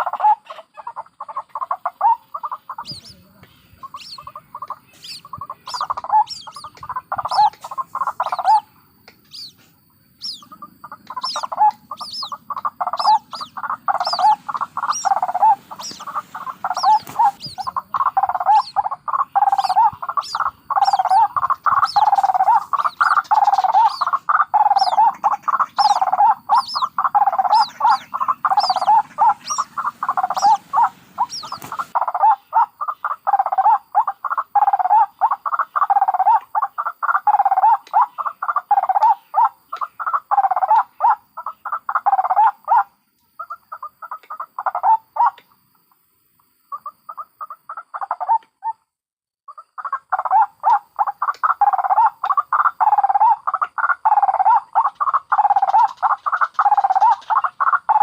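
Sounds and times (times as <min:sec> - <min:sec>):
young birds high-pitched calls: 0:00.0 - 0:45.4, 0:49.5 - 0:58.0
birds croaking calls: 0:00.0 - 0:48.8, 0:49.5 - 0:58.0.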